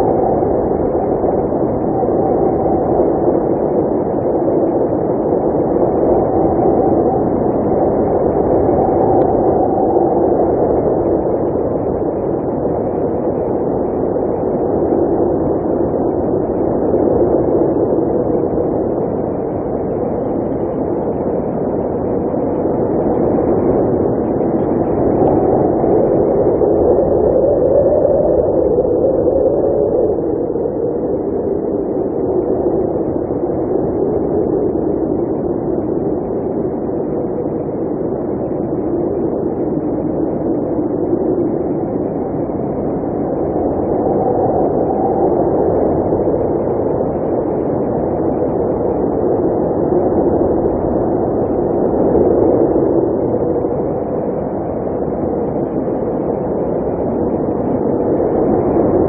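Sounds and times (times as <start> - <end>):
strong wind moaning: 0.0 - 59.0.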